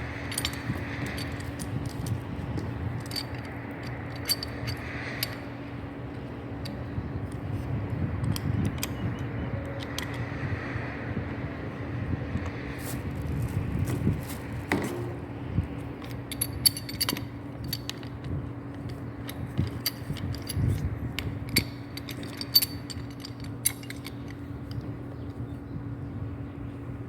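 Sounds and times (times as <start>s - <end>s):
steady low hum: 0.0s - 27.0s
plumbing fittings and tools handled: 0.2s - 10.2s, 12.4s - 25.0s.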